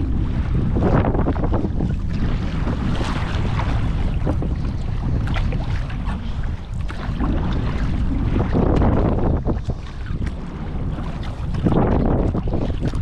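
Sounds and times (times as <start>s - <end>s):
water splashing around kayak: 0.0s - 13.0s
wind buffeting microphone: 0.0s - 13.0s.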